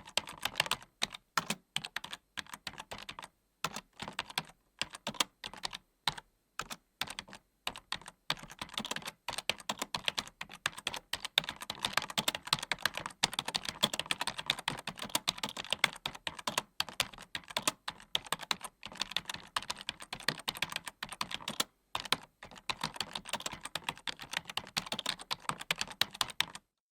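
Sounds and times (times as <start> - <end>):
keyboard typing: 0.0 - 26.7.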